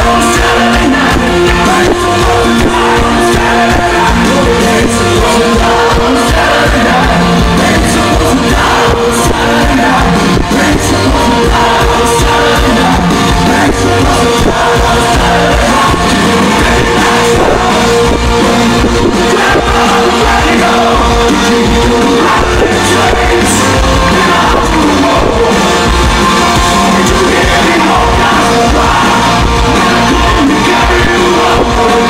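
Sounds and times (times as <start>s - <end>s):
lead singer singing: 0.0s - 32.0s
rock band playing live: 0.0s - 32.0s.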